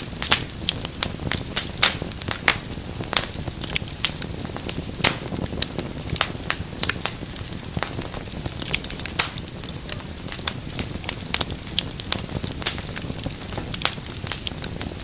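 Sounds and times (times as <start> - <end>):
fire crackling in a fireplace: 0.0 - 15.0
low rumble of burning: 0.0 - 15.0.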